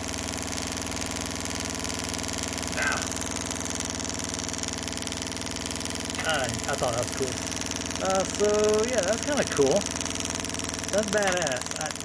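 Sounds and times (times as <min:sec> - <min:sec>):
ignition sparks ticking rapidly: 0:00.0 - 0:12.0.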